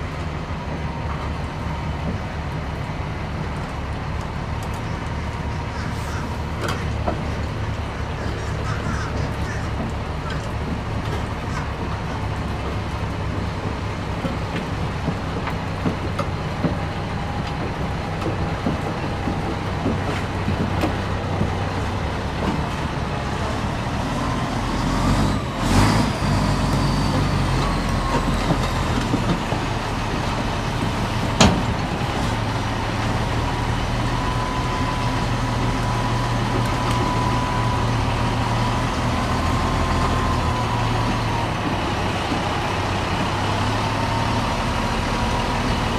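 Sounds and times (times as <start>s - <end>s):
diesel engine running under load: 0.0s - 45.9s.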